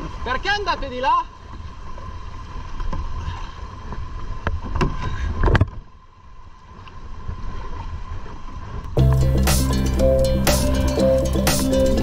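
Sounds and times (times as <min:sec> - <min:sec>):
kayak paddling water noise: 0:00.0 - 0:12.0.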